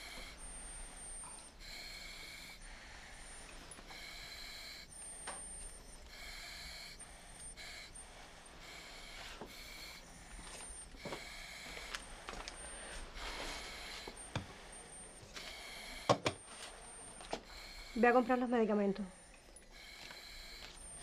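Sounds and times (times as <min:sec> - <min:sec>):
breaths hissing through oxygen mask: 0:00.0 - 0:21.0.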